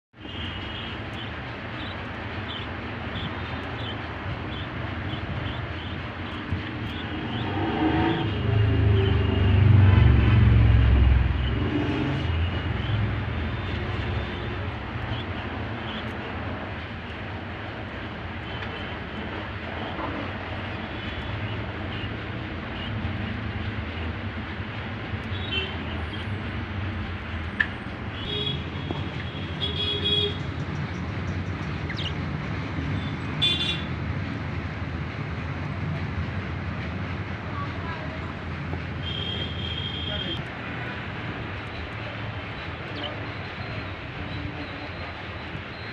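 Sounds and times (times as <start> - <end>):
low traffic rumble: 0.1 - 45.9.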